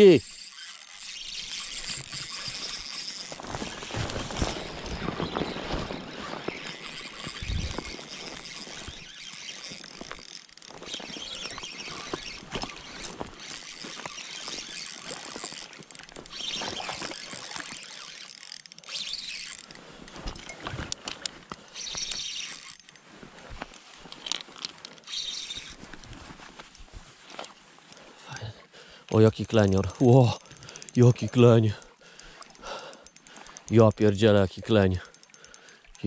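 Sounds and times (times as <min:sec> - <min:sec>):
fishing reel clicking and whirring: 0:00.0 - 0:36.0.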